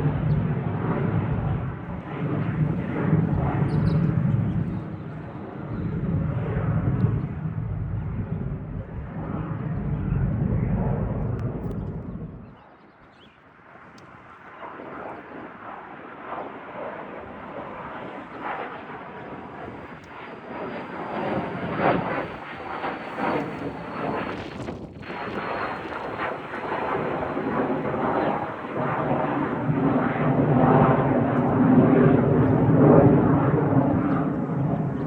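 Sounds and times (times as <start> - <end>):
airplane engines during takeoff: 0.0 - 35.0.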